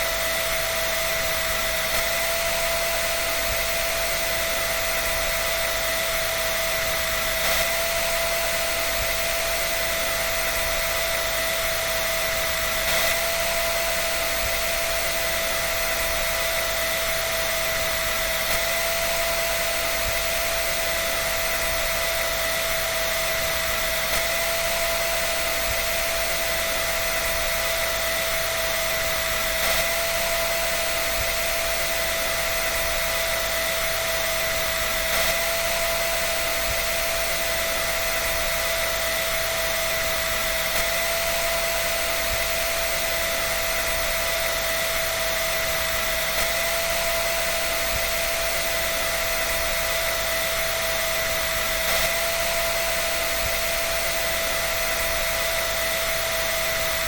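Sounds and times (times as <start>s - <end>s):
dryer blowing air with whine: 0.0s - 57.0s.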